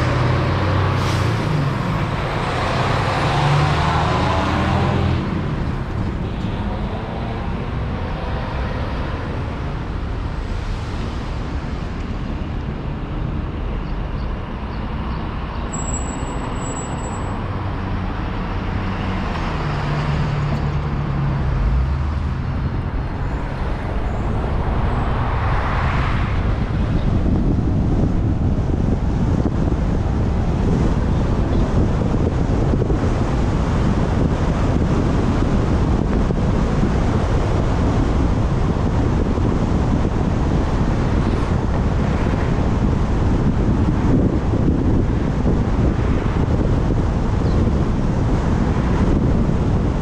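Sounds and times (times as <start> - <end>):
surrounding traffic: 0.0 - 50.0
tyre and engine rumble: 0.0 - 50.0
wind noise: 0.0 - 50.0.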